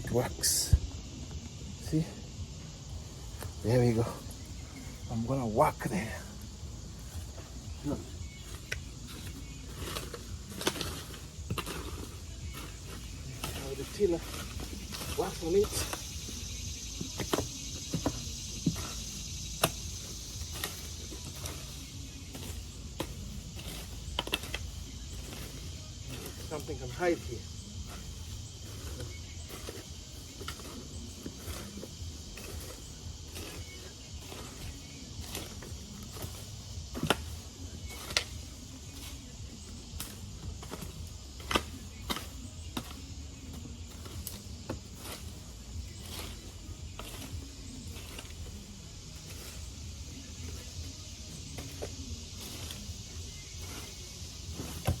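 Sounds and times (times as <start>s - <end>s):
garden tiller knocks and scrapes: 3.2s - 55.0s.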